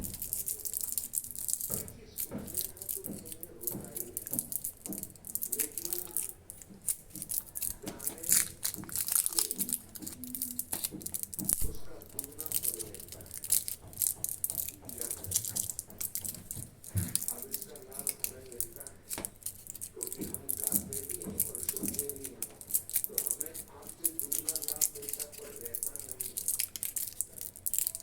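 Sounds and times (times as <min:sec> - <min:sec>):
toffee crunching while chewed: 0:00.0 - 0:28.0.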